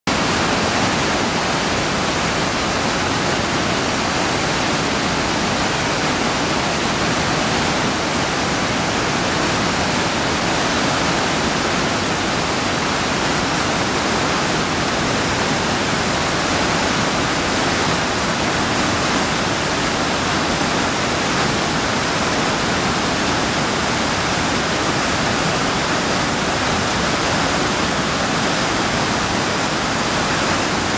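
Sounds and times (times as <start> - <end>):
whitewater cascading over rocks: 0.1 - 30.9.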